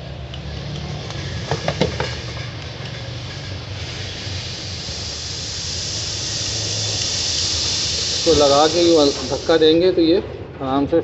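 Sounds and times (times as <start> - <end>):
steady low hum: 0.0 - 10.6
hiss: 0.3 - 10.2.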